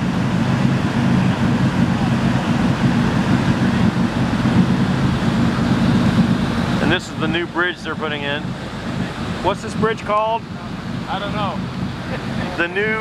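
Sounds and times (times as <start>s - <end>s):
boat engines idling: 0.0s - 13.0s
water rushing along hull: 0.0s - 13.0s.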